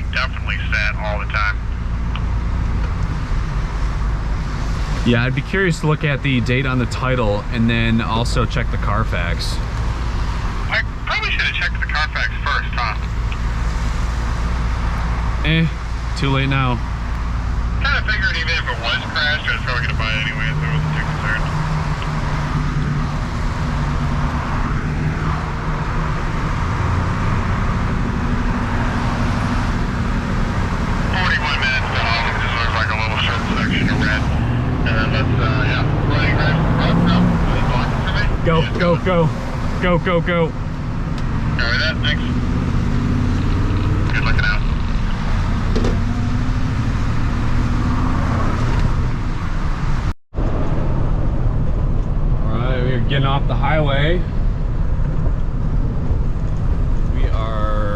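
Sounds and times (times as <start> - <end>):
diesel engine low drone: 0.0 - 57.9
road and tyre noise: 0.0 - 57.9.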